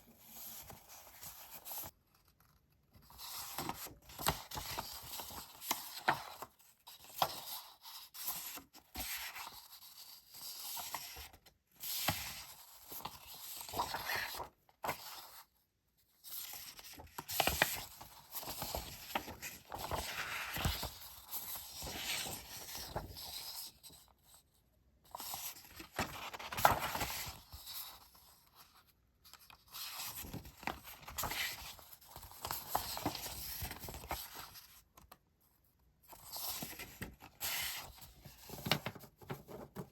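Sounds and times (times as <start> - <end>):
paper rustling and crinkling: 0.4 - 15.4, 16.2 - 24.0, 25.1 - 35.2.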